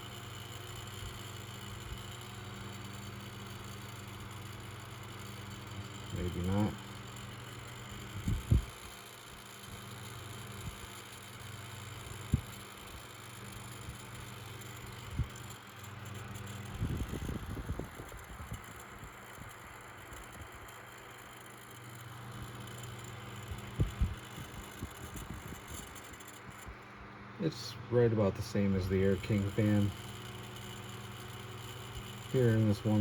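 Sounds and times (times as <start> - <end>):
table fan motor hum: 0.0 - 33.0.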